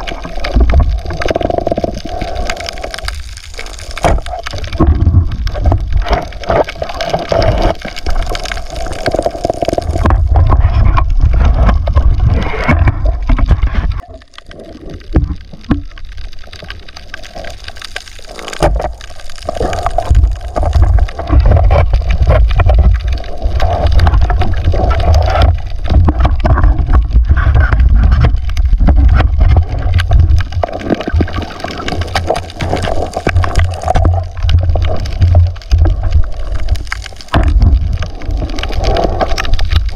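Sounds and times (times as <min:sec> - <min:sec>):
underwater water noise: 0:00.0 - 0:39.9.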